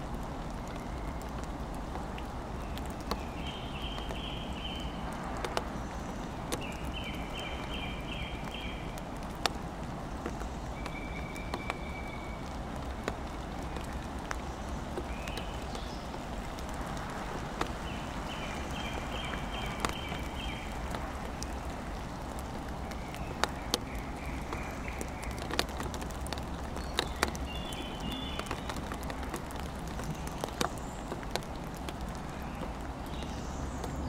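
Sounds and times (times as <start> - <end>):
raindrops knocking on wood: 0.0 - 34.0
steady rain: 0.0 - 34.0.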